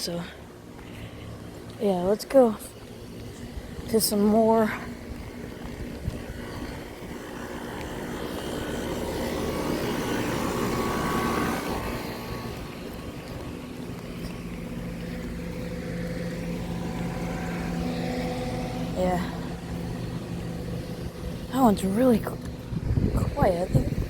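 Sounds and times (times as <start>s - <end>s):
steady low hum: 0.0s - 24.0s
air conditioner fan rushing: 2.9s - 24.0s.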